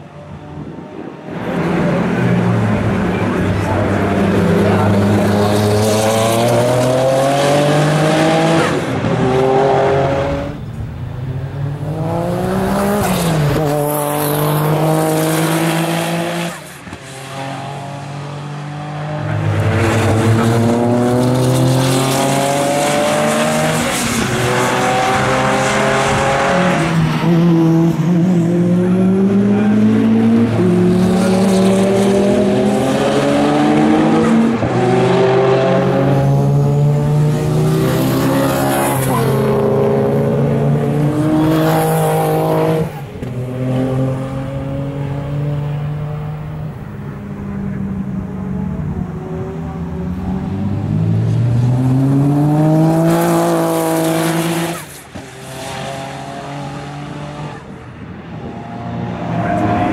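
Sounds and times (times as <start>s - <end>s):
race car accelerating hard: 0.3s - 59.9s.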